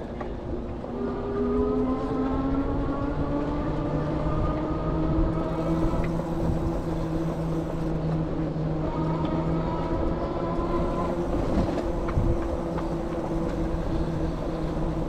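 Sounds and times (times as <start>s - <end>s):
bike tires droning hum: 0.0s - 15.0s
wind and road noise rumble: 0.0s - 15.0s.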